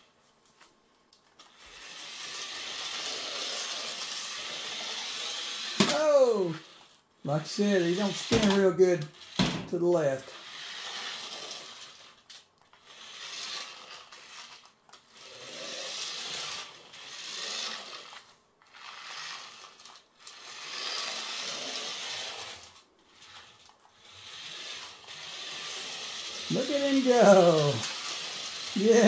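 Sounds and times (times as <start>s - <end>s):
toy truck motor whirring: 1.3s - 29.0s.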